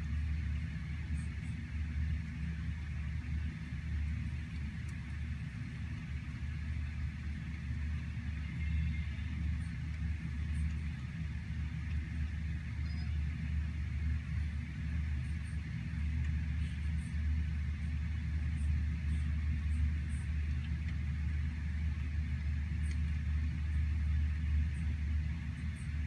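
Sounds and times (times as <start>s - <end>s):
rain on forest canopy: 0.0s - 26.0s.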